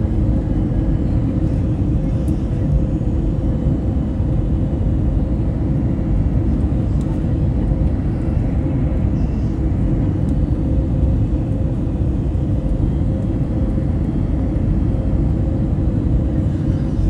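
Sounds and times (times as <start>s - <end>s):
airplane engine rumble: 0.0s - 17.0s
faint steady hum: 0.0s - 17.0s.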